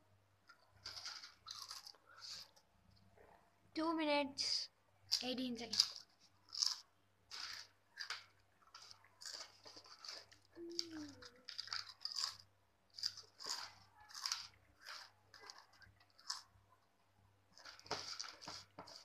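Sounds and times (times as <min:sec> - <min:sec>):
person chewing crisp chips: 0:00.6 - 0:02.6, 0:05.1 - 0:16.9, 0:17.5 - 0:19.0.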